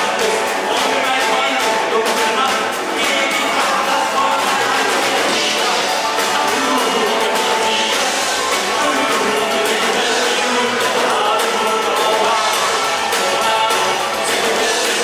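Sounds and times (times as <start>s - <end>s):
live rock band playing: 0.0s - 15.0s
people singing: 0.0s - 15.0s.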